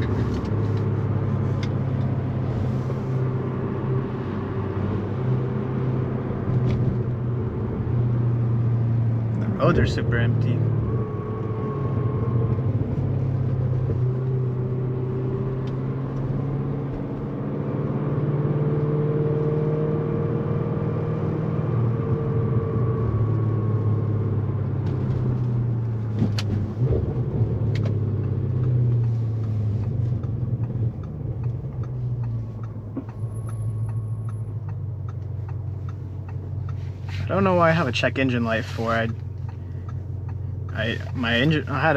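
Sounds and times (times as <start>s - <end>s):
car engine and exhaust droning: 0.0s - 41.9s.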